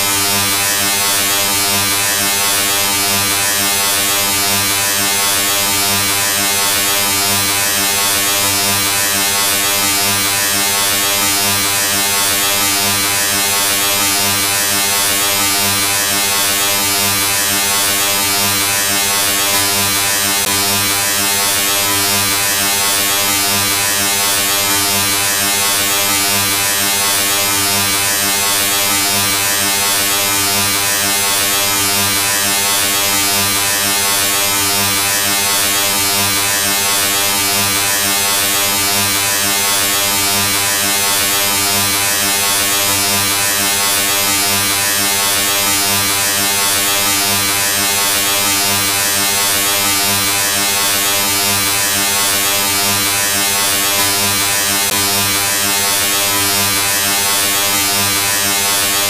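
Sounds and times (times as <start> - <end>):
electric buzz with low hum: 0.0 - 59.0.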